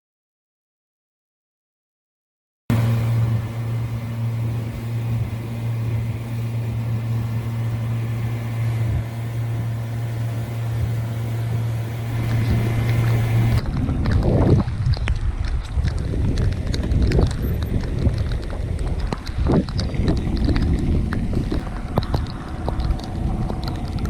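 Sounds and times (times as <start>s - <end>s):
boat motor humming: 2.7s - 24.0s
wind buffeting: 2.7s - 24.0s.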